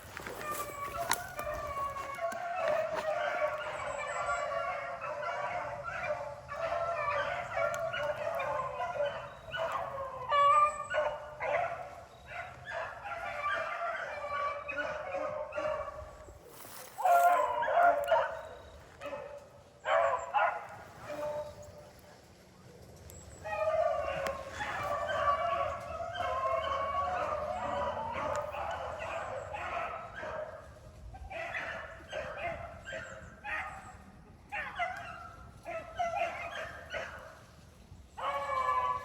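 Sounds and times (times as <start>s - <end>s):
hounds baying: 0.0s - 39.0s.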